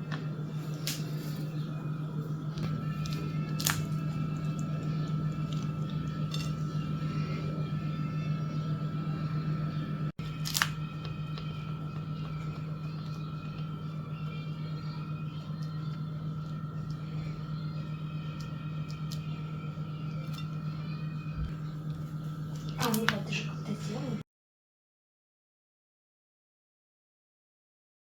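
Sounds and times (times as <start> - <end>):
high whine: 0.0 - 24.2
steady low hum: 0.0 - 24.2.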